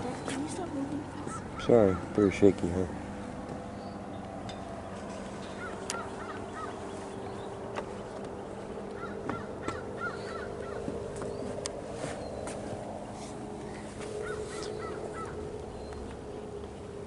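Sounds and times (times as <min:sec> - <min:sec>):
bird calling: 0:00.0 - 0:02.6, 0:03.7 - 0:17.0
steady low hum: 0:00.0 - 0:17.0.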